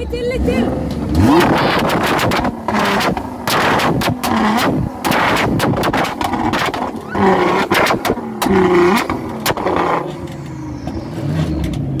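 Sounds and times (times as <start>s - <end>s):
car engine revving: 0.0s - 12.0s
exhaust pops and cracks: 0.8s - 12.0s.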